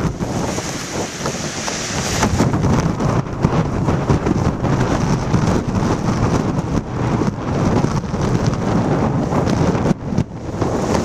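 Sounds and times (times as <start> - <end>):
surf breaking on rocks: 0.0 - 11.0
wind buffeting microphone: 0.0 - 11.0.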